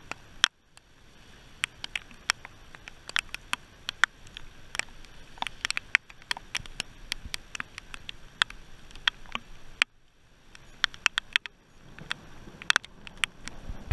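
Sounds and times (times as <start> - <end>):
low hiss: 0.0 - 13.9
raindrops ticking: 0.0 - 13.9.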